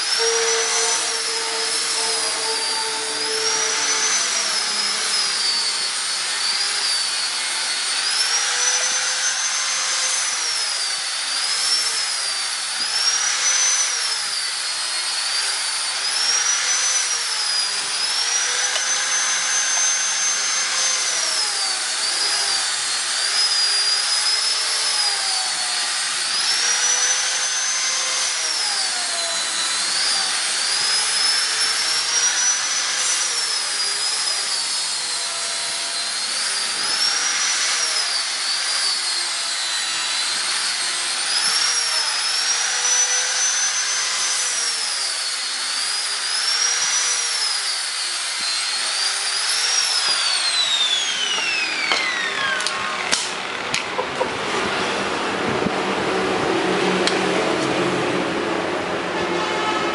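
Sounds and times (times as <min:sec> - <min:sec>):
grinder motor whine: 0:00.0 - 0:59.0.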